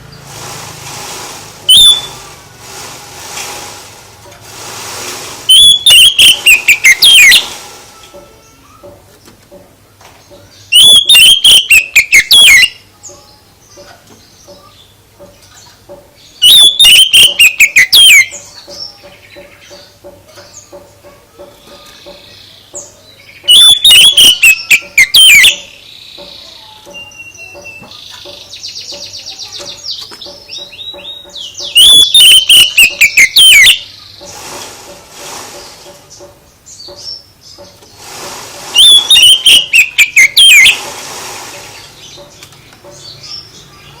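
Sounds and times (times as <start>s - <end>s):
soft bird warbling and trill: 1.5s - 2.3s, 5.4s - 38.0s, 38.6s - 44.0s.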